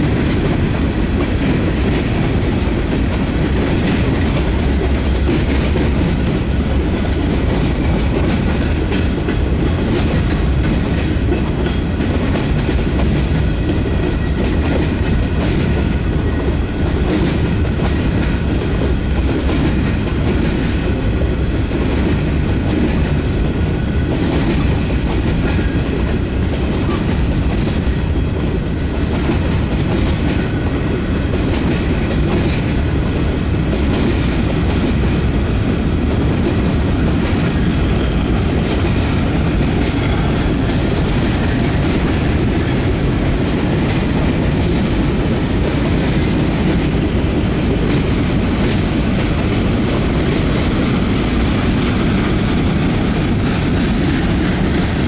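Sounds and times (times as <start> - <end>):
freight train wheels rumbling: 0.0 - 55.0
wheels clacking over rail joints: 0.0 - 55.0.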